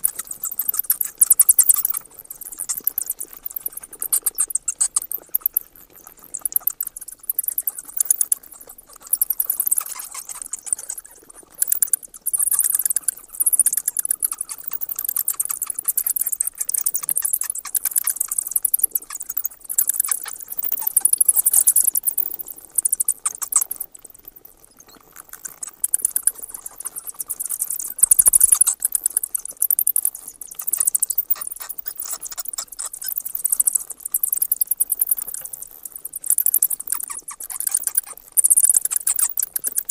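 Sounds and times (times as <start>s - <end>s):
bats squeaking and chattering: 0.0s - 39.9s.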